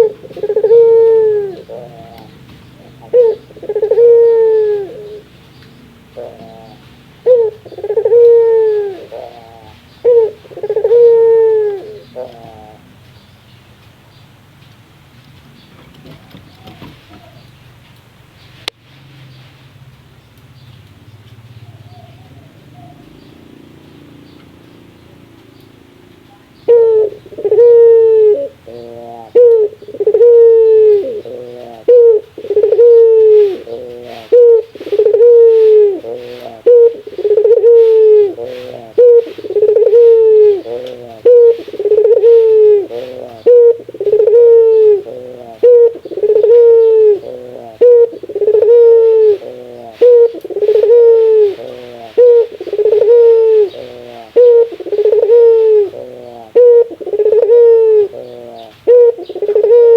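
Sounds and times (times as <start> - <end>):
dove stuttering notes: 0.0 - 12.8, 23.4 - 59.9
dove cooing: 0.0 - 13.1, 21.6 - 59.9.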